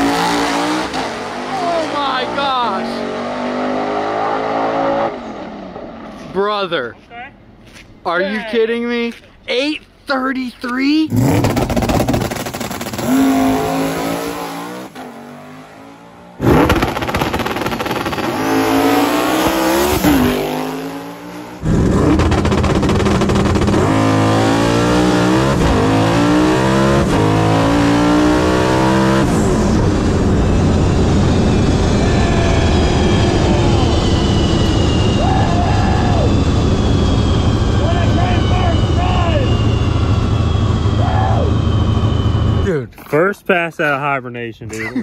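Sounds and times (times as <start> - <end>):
drag car engine at full throttle: 0.0 - 6.3, 11.1 - 42.7.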